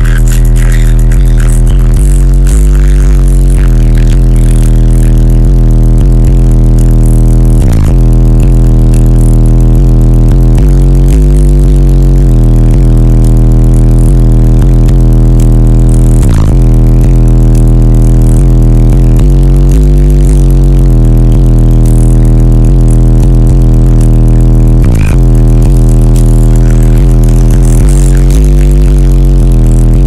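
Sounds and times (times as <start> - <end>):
distorted subwoofer bass drone: 0.0 - 30.0.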